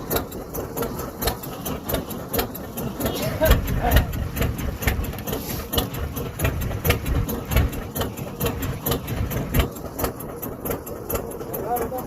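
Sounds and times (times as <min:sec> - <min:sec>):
boat engine rumbling with ticking: 0:00.0 - 0:12.0.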